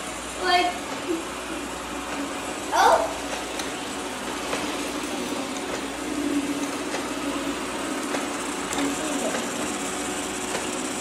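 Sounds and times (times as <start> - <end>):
robot vacuums humming: 0.0 - 11.0.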